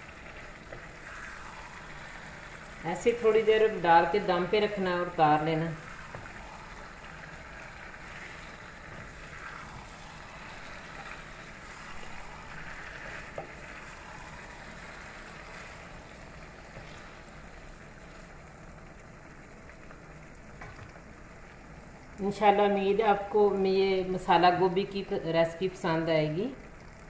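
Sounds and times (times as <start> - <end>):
curry sizzling in a pan: 0.0 - 27.0.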